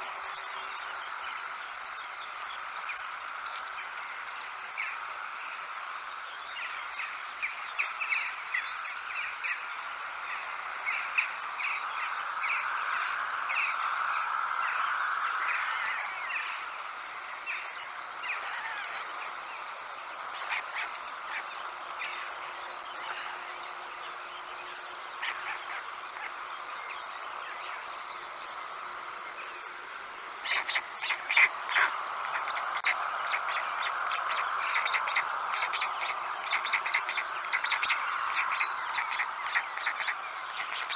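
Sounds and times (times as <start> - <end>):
background hiss: 0.0 - 40.9
small birds chirping: 0.0 - 40.9.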